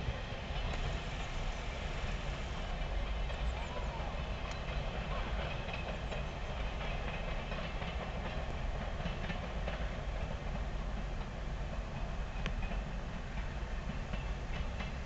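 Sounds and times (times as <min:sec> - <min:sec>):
rail joint clicks: 0:00.0 - 0:15.0
train wheels rumbling on rail: 0:00.0 - 0:15.0.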